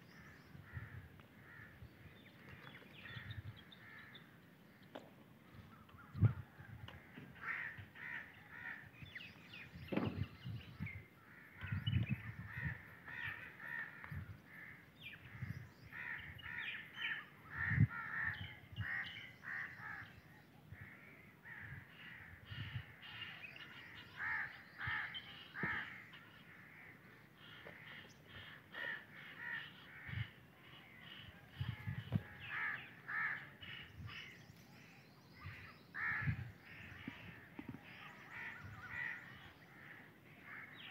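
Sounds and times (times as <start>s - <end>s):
birds harsh calls: 0.0s - 40.9s.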